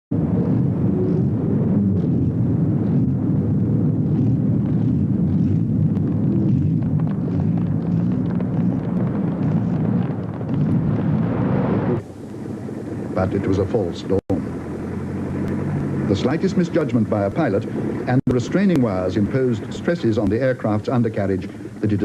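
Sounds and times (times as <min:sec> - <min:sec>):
engine rumble: 0:00.1 - 0:22.0
wind noise: 0:00.1 - 0:22.0.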